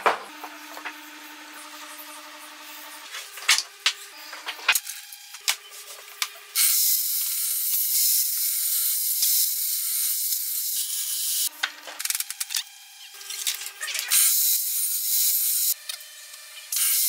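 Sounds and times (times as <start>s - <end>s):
table saw cutting wood: 0.0s - 17.0s.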